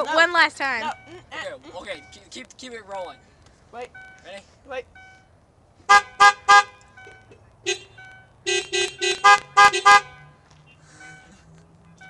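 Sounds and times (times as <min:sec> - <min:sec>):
car horn honking: 0:00.6 - 0:02.3, 0:03.1 - 0:12.0.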